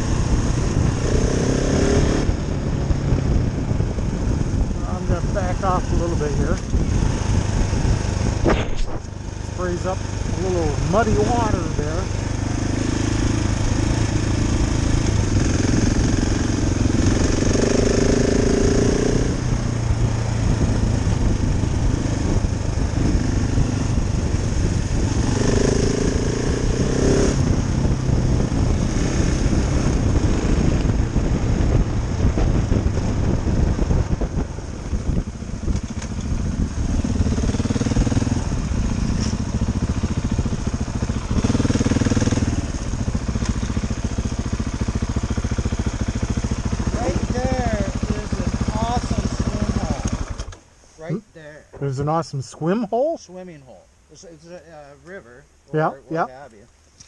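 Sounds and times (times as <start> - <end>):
motorcycle engine revving: 0.0 - 51.3
road rumble: 0.0 - 57.0
wind: 0.0 - 57.0.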